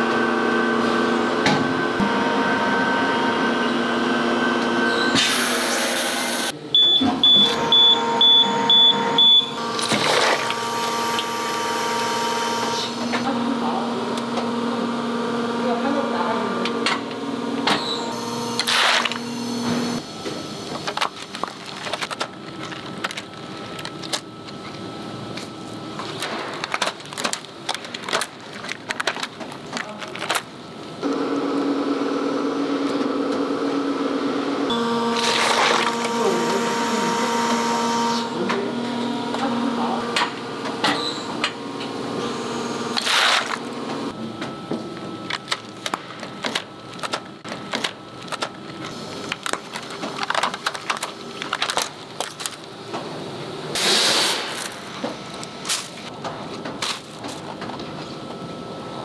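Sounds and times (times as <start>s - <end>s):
factory machinery humming: 0.0s - 59.0s.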